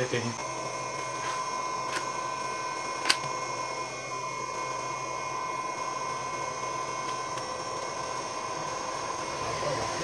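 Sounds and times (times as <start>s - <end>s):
small fan whining: 0.0s - 10.0s.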